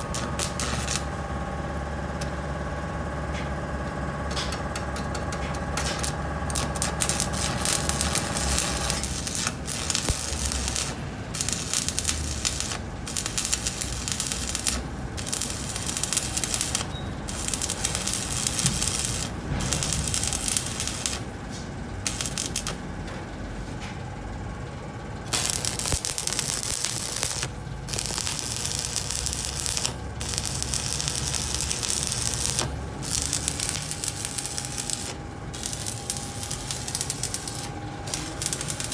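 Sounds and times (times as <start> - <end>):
arc welding crackle: 0.0 - 2.3, 4.3 - 23.6, 25.2 - 38.9
steady low hum: 0.0 - 38.9.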